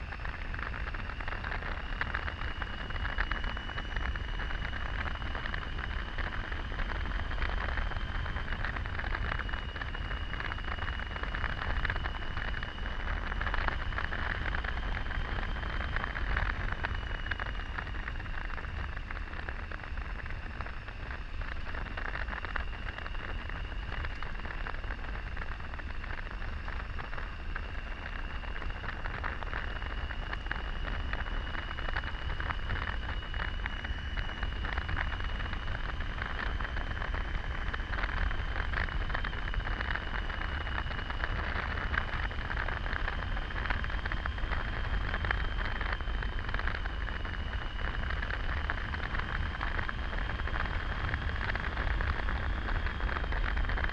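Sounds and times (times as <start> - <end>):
engine and road rumble: 0.0 - 53.9
thin high whine: 0.0 - 53.9
wind rushing over microphone: 0.0 - 53.9.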